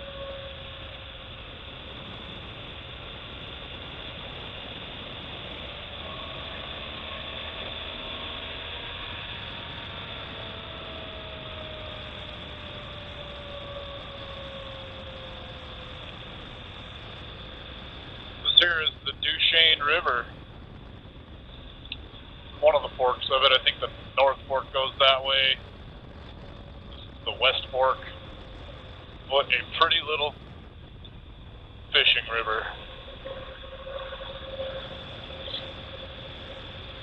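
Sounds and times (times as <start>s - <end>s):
motorcycle engine cruising: 0.0s - 18.5s, 25.6s - 37.0s
wind and road noise: 0.0s - 37.0s.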